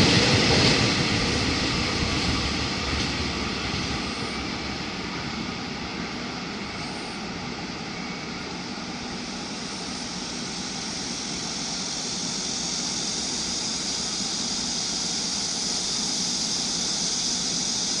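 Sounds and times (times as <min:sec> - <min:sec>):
freight train wheels rumbling: 0:00.0 - 0:18.0
train hiss: 0:00.0 - 0:18.0.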